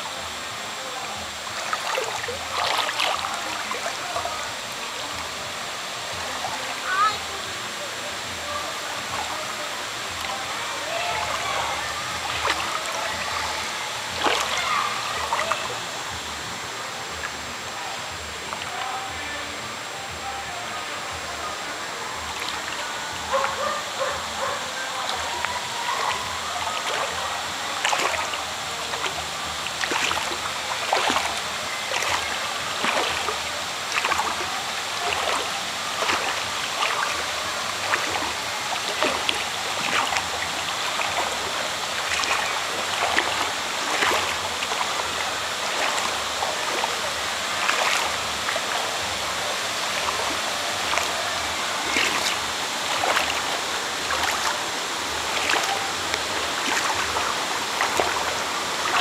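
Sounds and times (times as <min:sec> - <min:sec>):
running water: 0:00.0 - 0:59.0
water splashes: 0:00.0 - 0:59.0.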